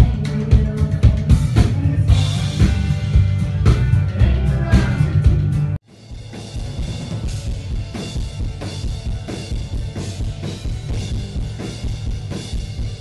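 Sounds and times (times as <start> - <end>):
live country band: 0.0 - 12.4
drum kit beat: 0.0 - 13.0.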